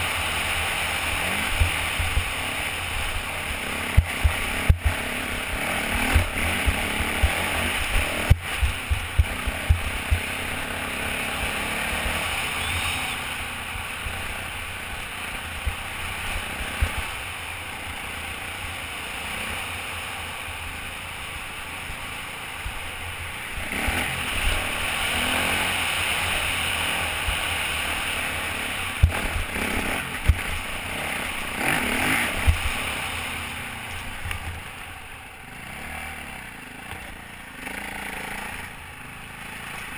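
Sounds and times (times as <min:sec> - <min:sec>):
dirt bike engine at speed: 0:00.0 - 0:39.9.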